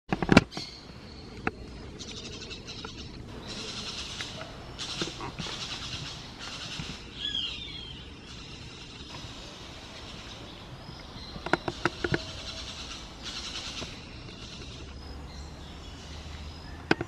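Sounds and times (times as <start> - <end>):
pulsing wildlife chorus: 0.3 - 17.0.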